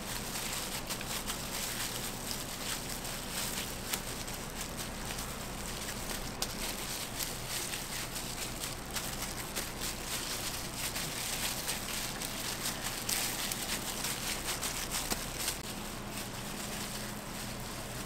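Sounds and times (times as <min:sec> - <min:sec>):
kitchen equipment humming: 0:00.0 - 0:18.0
small clicks and crackles: 0:00.0 - 0:18.0.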